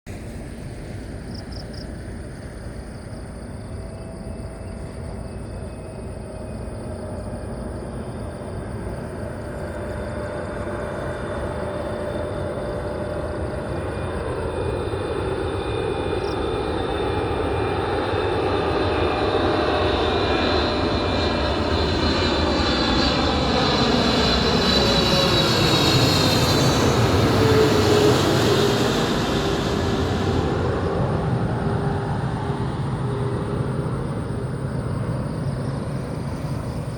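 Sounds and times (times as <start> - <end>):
jet airliner engine noise: 0.1 - 36.9.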